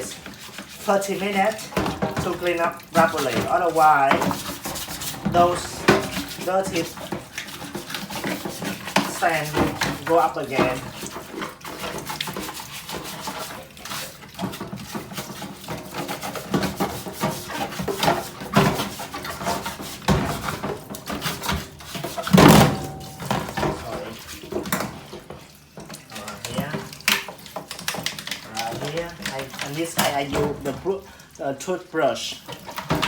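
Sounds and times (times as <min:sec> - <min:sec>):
plastic parts scraping and clattering: 0:00.0 - 0:31.0, 0:32.4 - 0:33.0.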